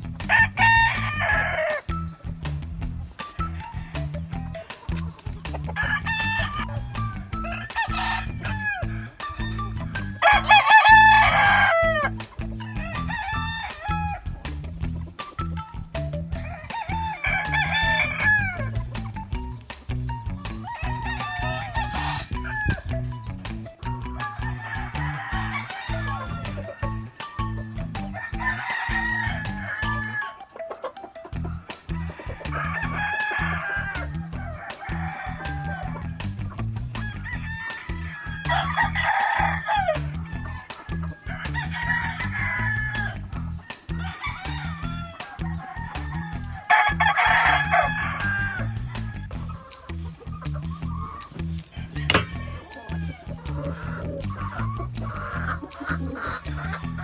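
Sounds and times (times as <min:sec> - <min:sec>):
roosters crowing: 0:00.0 - 0:02.0, 0:03.2 - 0:14.6, 0:15.3 - 0:19.2, 0:20.2 - 0:30.5, 0:31.4 - 0:57.0
background music with bass beat: 0:00.0 - 0:30.3, 0:31.2 - 0:57.0.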